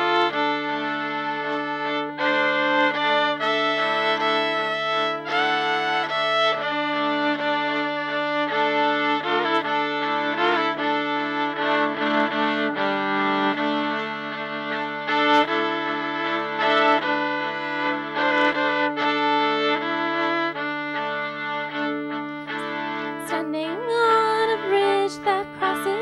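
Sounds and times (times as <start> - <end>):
viola bowing: 0.0 - 26.0.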